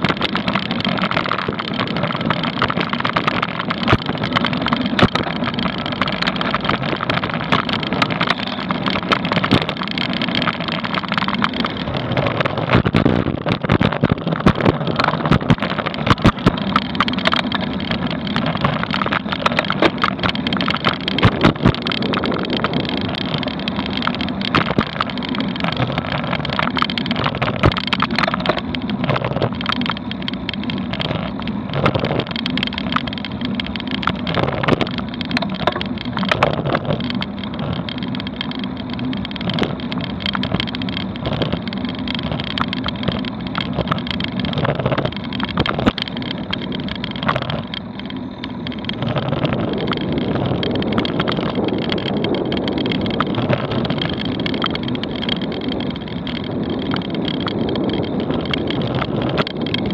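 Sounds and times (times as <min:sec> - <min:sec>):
bike and camera mount clicks: 0:00.0 - 0:59.9
road and wind rumble: 0:00.0 - 0:59.9.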